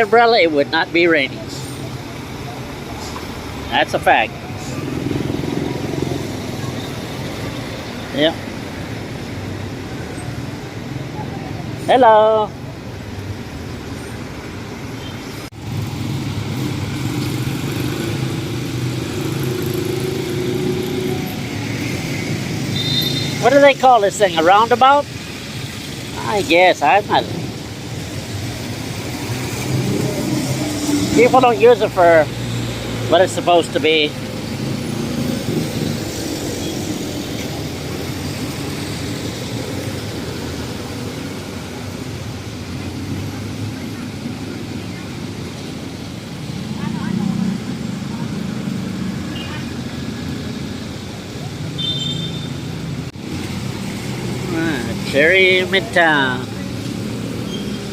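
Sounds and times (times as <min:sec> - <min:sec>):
street traffic: 0:00.0 - 0:57.9
tyres on road: 0:00.0 - 0:57.9
vehicle engines: 0:00.0 - 0:57.9.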